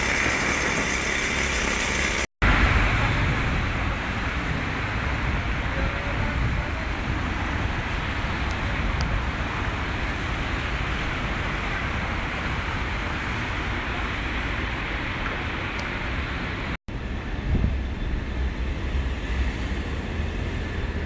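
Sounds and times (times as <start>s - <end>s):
cars hissing on wet road: 0.0s - 16.8s, 18.4s - 21.0s
wind rumbling on microphone: 0.0s - 21.0s.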